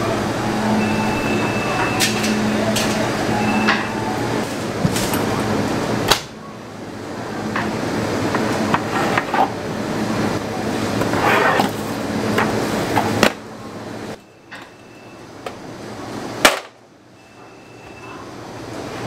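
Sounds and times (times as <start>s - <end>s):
bakery background noise: 0.0s - 19.0s.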